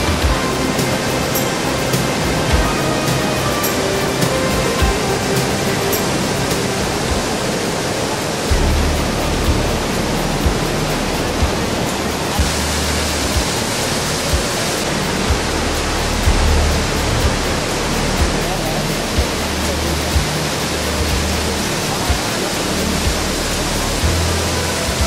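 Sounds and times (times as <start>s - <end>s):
music with low beat: 0.0s - 25.0s
waterfall rushing: 0.0s - 25.0s.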